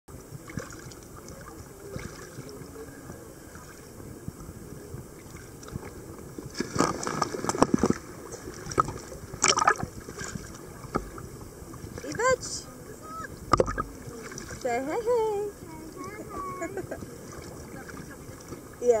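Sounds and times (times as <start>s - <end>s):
water sloshing and gurgling: 0.1s - 19.0s
water splashing: 0.3s - 19.0s.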